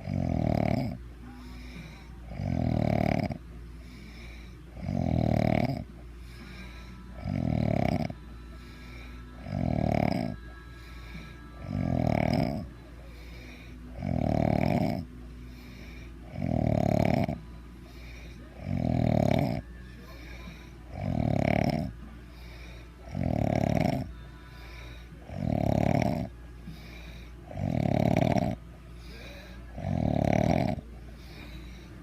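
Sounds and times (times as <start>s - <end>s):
heavy snoring: 0.0s - 32.0s
quiet breaths: 0.0s - 32.0s.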